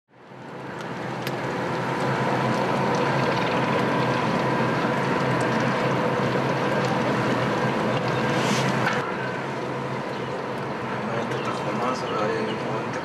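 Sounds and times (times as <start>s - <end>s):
outdoor rushing noise: 0.4s - 13.0s.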